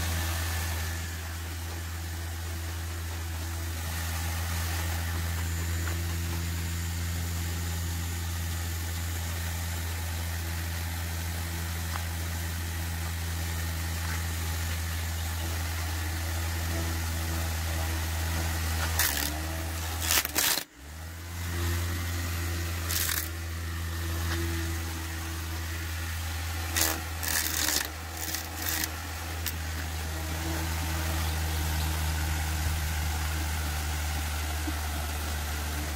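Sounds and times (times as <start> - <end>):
small motor humming: 0.0 - 35.9.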